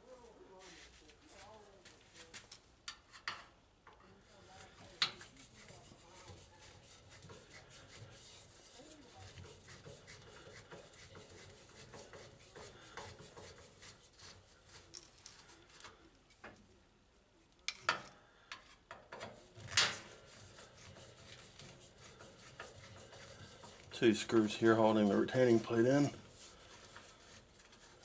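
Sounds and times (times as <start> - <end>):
rubbing and handling parts: 0.6 - 16.6, 17.7 - 28.0.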